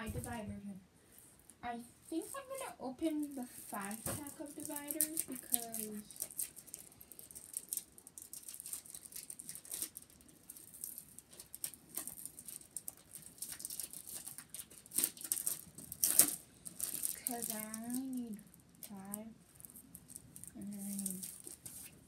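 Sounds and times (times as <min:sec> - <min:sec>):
plastic packaging crinkling: 0:02.1 - 0:22.0.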